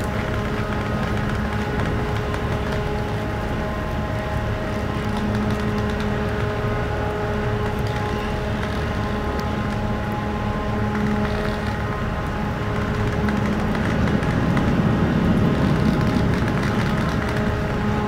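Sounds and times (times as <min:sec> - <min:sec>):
held humming tones: 0:00.0 - 0:18.0
ship machinery low rumble: 0:00.0 - 0:18.0.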